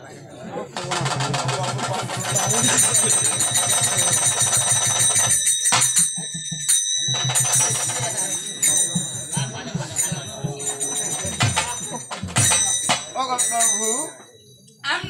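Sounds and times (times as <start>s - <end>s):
harmonium and drum dance tune: 0.8s - 13.4s
jingling small cymbals: 1.9s - 14.8s.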